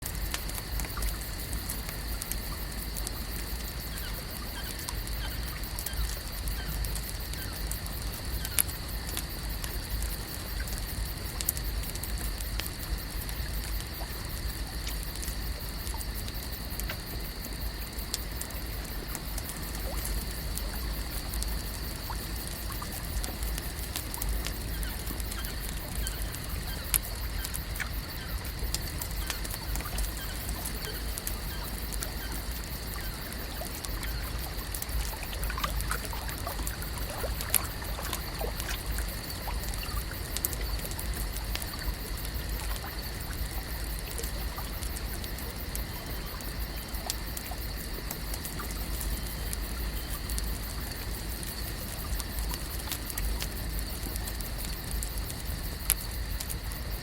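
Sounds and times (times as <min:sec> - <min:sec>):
small clicks and pops: 0:00.0 - 0:56.9
water lapping and trickling: 0:00.1 - 0:56.8.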